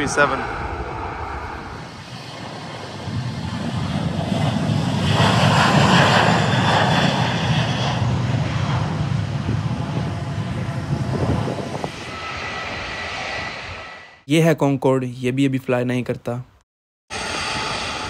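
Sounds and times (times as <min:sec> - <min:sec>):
jet airliner taking off: 0:00.0 - 0:14.3, 0:17.1 - 0:18.0.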